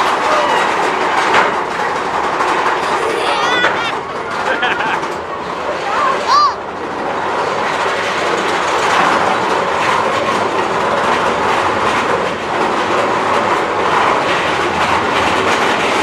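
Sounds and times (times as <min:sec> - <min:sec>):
roller coaster cars rumbling: 0:00.0 - 0:16.0
wheels clacking on track: 0:00.0 - 0:16.0.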